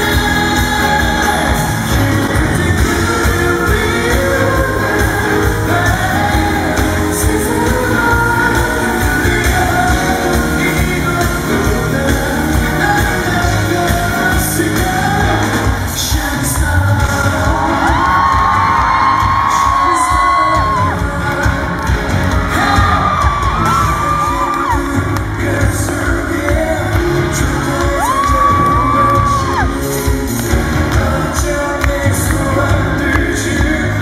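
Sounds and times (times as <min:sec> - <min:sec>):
live rock band: 0:00.0 - 0:34.0
man singing: 0:00.0 - 0:34.0
steady drum beat: 0:00.0 - 0:34.0.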